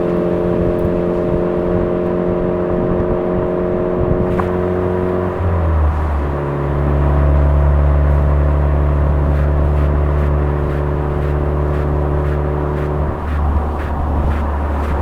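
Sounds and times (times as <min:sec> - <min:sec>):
car exhaust drone: 0:00.0 - 0:15.0.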